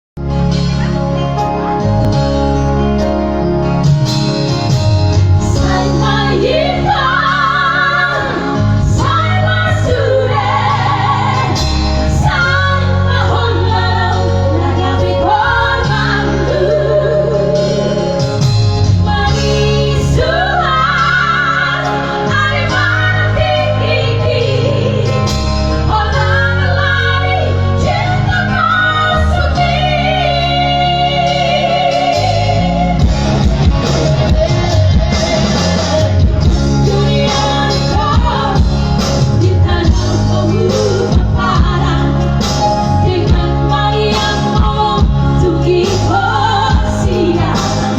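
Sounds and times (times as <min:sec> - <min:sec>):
instrumental backing with bass line: 0:00.2 - 0:47.9
woman singing with vibrato: 0:05.4 - 0:18.2, 0:19.0 - 0:47.9.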